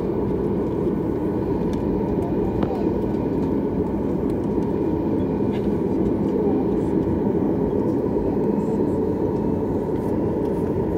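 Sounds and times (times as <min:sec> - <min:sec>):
jet engines low rumble: 0:00.0 - 0:10.9.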